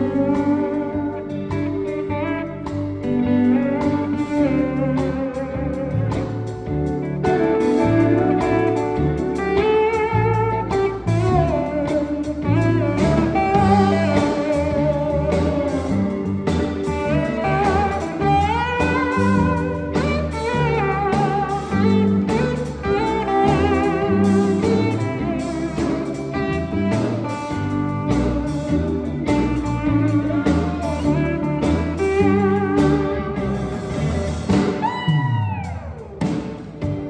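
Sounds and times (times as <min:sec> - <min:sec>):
bass and drums: 0:00.0 - 0:37.0
steel guitar sliding lead: 0:00.0 - 0:37.0.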